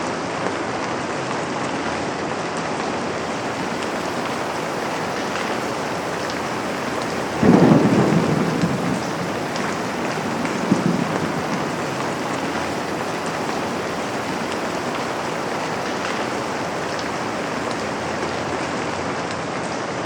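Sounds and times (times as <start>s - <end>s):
rain on a window: 3.0s - 19.3s.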